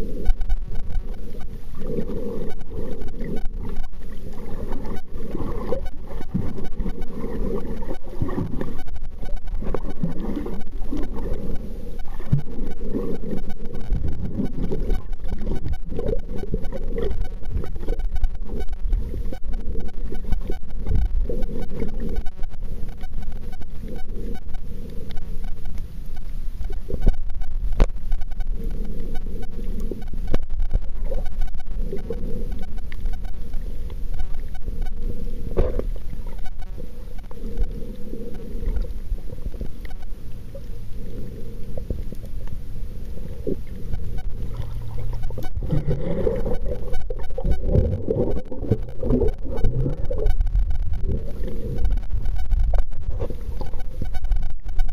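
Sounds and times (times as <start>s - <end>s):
underwater rumbling and sloshing: 0.0s - 54.9s
faint clicks: 0.2s - 54.9s.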